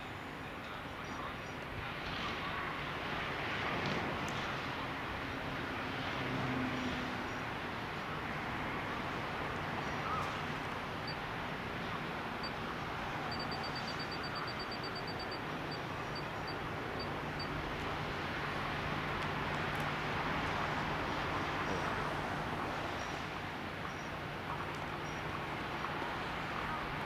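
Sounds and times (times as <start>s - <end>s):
distant road traffic: 0.2s - 27.0s.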